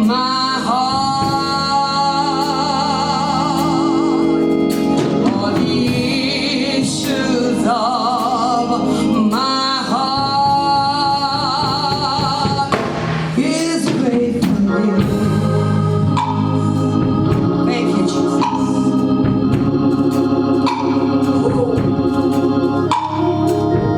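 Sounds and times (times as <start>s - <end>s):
instrumental accompaniment: 0.0s - 23.9s
person singing gospel: 0.0s - 23.9s.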